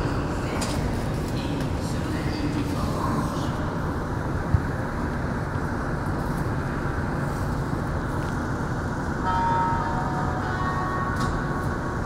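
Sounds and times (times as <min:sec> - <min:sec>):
train rumble and hiss: 0:00.0 - 0:12.0.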